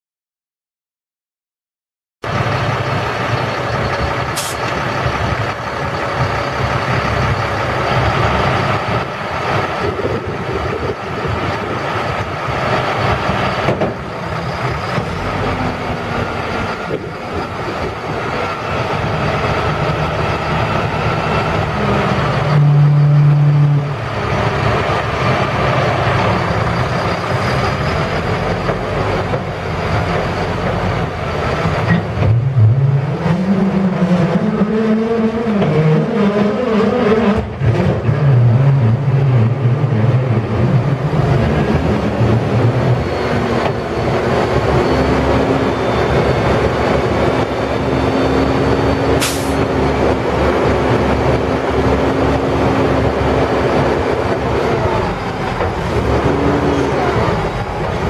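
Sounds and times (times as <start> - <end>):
diesel truck engine running: 2.2 - 58.0
hydraulic hoist rising tone: 3.4 - 58.0.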